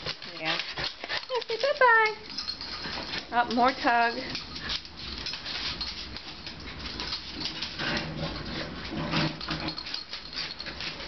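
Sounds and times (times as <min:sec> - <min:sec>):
dog toy scuffling and rattling: 0:00.0 - 0:11.0.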